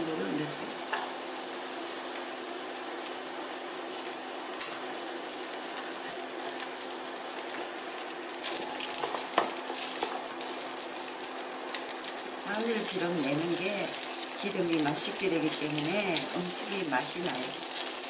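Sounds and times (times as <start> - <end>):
garlic sizzling in oil: 0.0 - 18.0.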